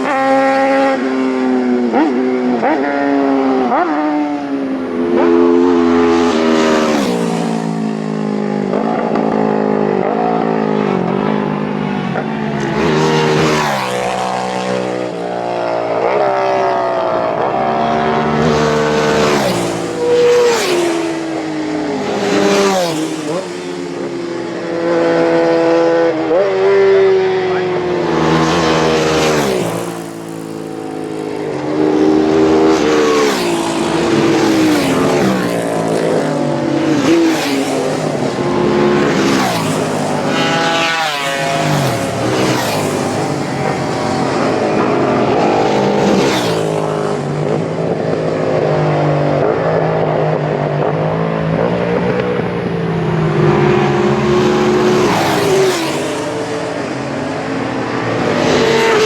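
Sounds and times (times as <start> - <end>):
racing motorcycles passing at speed: 0.0 - 59.0.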